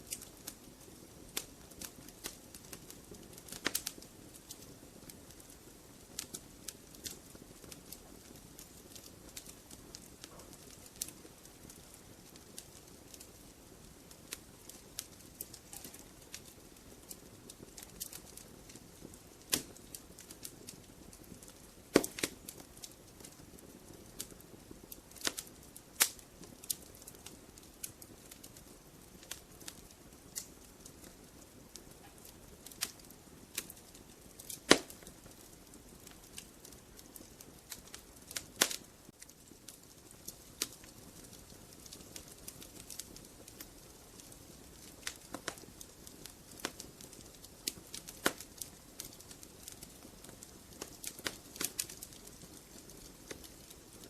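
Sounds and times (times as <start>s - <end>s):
hiss of flame: 0.0s - 54.0s
logs crackling in fireplace: 0.0s - 54.0s.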